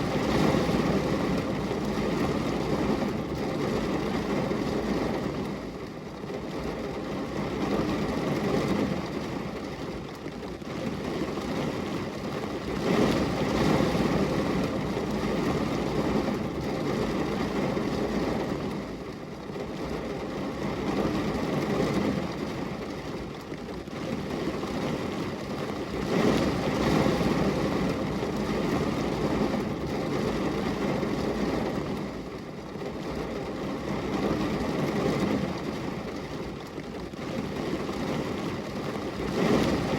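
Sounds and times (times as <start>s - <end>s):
rain on a glass window: 0.0s - 39.9s.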